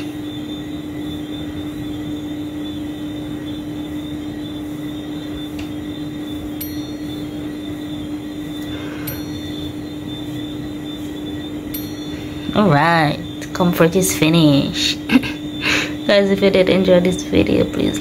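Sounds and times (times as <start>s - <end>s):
machine droning hum: 0.0s - 18.0s.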